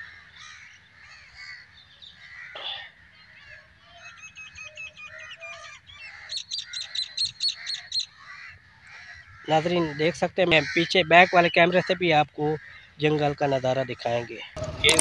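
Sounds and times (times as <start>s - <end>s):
wild birds calling: 0.0s - 15.0s.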